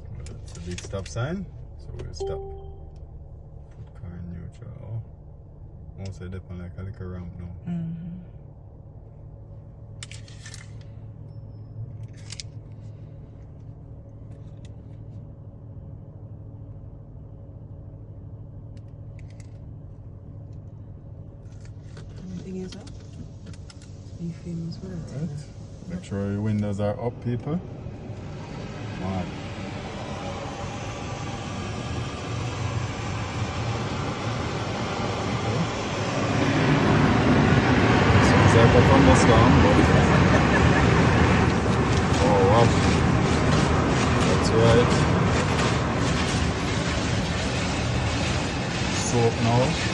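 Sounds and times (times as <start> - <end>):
low hum inside car cabin: 0.0 - 49.9.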